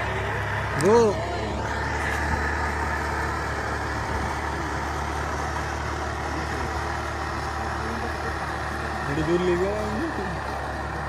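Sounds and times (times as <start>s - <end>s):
speed boat engine humming: 0.0s - 11.0s.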